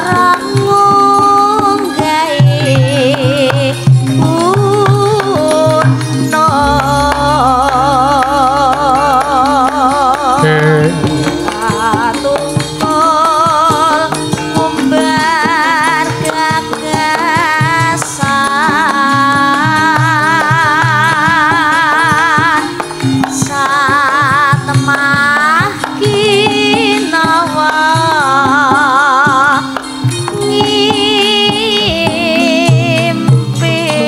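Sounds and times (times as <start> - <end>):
gamelan accompaniment: 0.0 - 34.0
woman singing with vibrato: 0.0 - 34.0.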